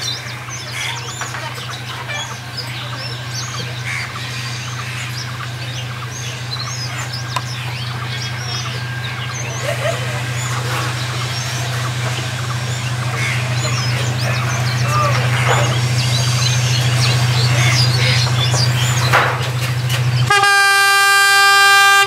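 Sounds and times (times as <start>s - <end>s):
birds chirping: 0.0s - 22.0s
diesel locomotive droning: 0.0s - 22.0s
locomotive horn blast: 3.2s - 22.0s.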